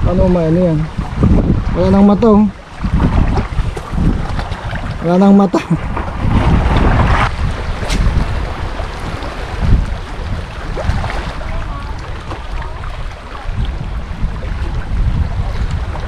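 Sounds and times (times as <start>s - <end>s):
wind buffeting microphone: 0.0s - 16.0s
waves lapping stony shore: 0.1s - 16.0s.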